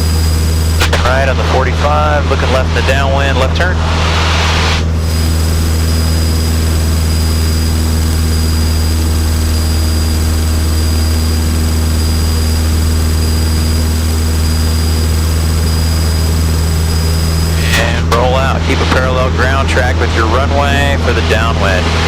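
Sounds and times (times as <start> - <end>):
faint high whine: 0.0 - 22.0
propeller plane engine drone: 0.0 - 22.0.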